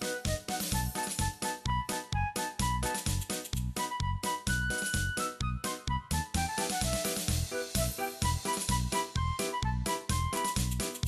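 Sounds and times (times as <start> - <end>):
dance music with quick beat: 0.0 - 11.0.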